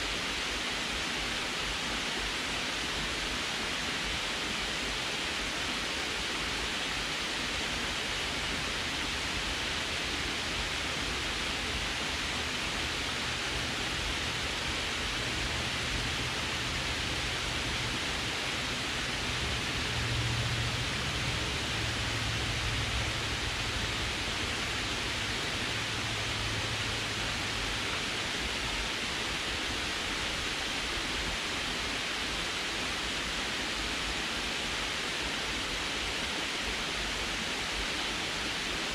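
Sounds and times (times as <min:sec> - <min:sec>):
water rushing over dam spillway: 0:00.0 - 0:38.9.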